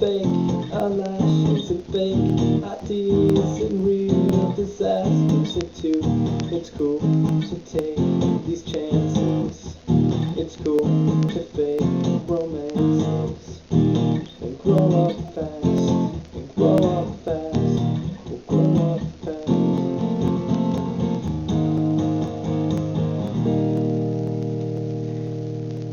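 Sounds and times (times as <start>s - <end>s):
strummed guitar chords: 0.0s - 25.9s.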